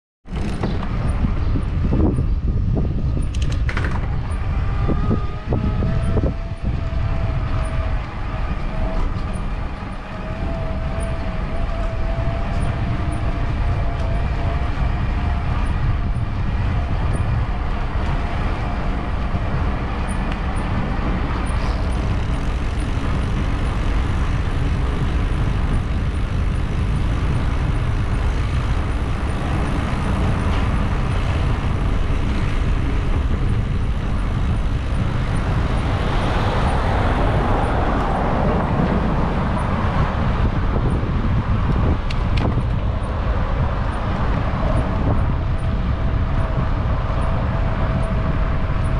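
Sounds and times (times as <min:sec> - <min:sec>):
road noise: 0:00.2 - 0:48.9
wind rumble on microphone: 0:00.2 - 0:48.9.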